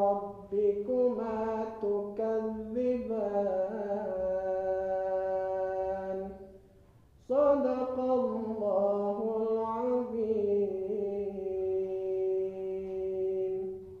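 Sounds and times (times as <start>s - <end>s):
man chanting melodically: 0.0s - 6.5s, 7.2s - 14.0s.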